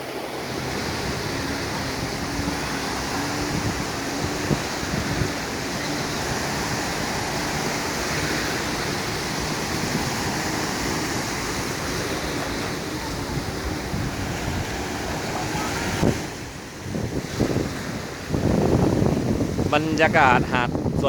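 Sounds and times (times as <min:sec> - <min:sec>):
sea surf breaking on beach: 0:00.0 - 0:21.0.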